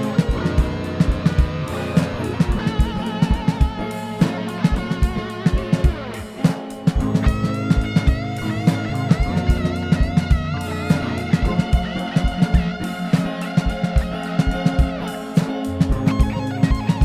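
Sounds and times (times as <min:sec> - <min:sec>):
bass guitar: 0:00.0 - 0:17.0
drum kit beat: 0:00.0 - 0:17.0
electric guitar lead: 0:00.0 - 0:17.0.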